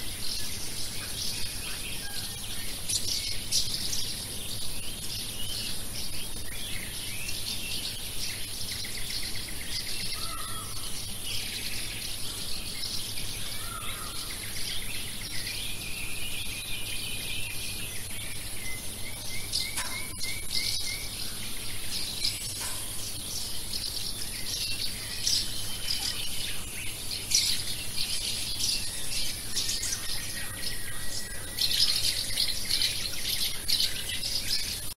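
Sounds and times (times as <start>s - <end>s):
small birds chirping and singing: 0.0s - 35.0s.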